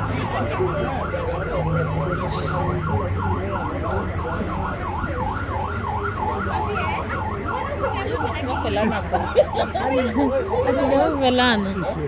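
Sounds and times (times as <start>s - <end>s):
vehicle siren yelping: 0.0s - 12.0s.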